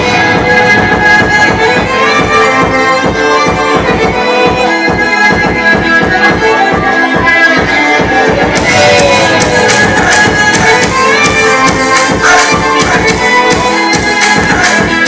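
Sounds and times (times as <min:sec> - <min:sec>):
loud music with steady beat: 0:00.0 - 0:15.0.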